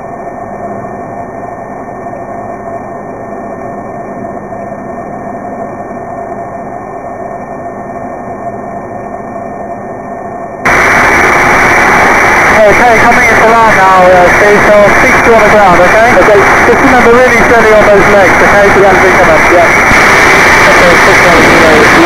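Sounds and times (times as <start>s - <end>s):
aircraft piston engine droning: 0.0s - 22.0s.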